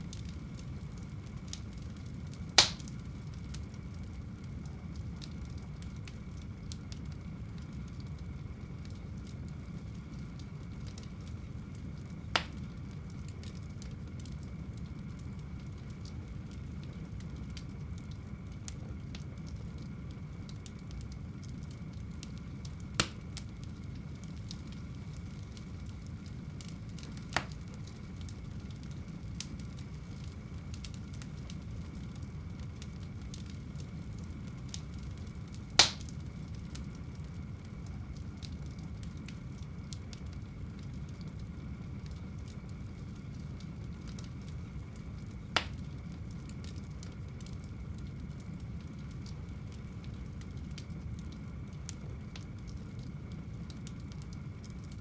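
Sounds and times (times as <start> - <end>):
fire crackling in fireplace: 0.0 - 55.0
sharp pops from fire: 0.1 - 19.9, 20.5 - 41.4, 42.0 - 52.8.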